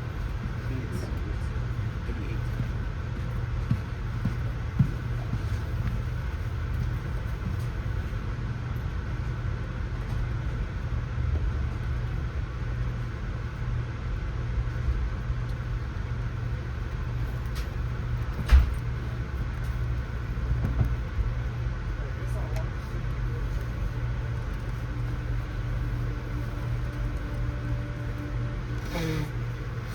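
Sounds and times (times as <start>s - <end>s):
train rumble inside coach: 0.0s - 29.9s.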